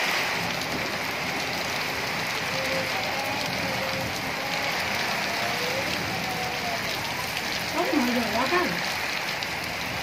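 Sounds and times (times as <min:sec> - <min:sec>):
heavy rain on concrete roof: 0:00.0 - 0:10.0.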